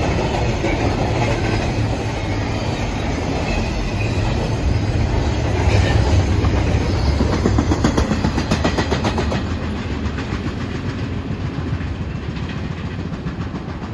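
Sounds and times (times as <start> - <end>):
train cars rumbling past: 0.0 - 13.9
wheels clicking over rail joints: 0.0 - 13.9.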